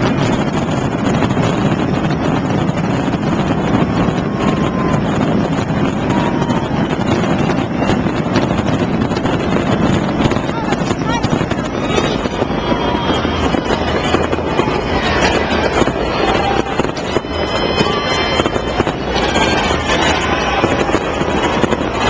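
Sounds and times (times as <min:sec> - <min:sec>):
crowd noise: 0:00.0 - 0:22.0
firework whistles: 0:00.0 - 0:22.0
fireworks bursting: 0:00.0 - 0:22.0.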